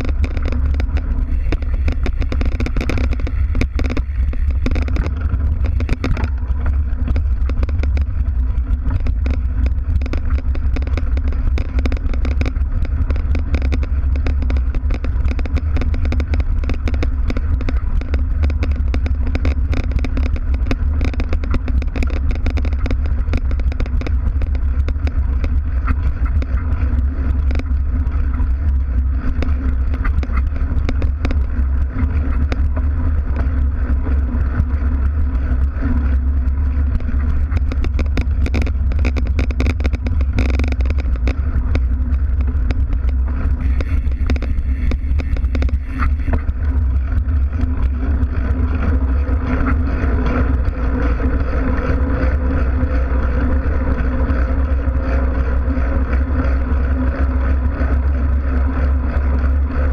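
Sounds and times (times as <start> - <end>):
bike rattling and clicking: 0.0 - 59.9
bike tyres rumbling on dirt: 0.0 - 59.9.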